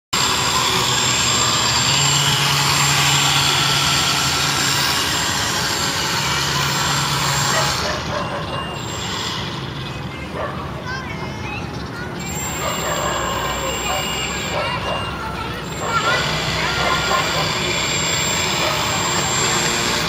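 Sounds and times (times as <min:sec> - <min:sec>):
model airboat propeller and motor: 0:00.2 - 0:10.3, 0:12.0 - 0:20.0.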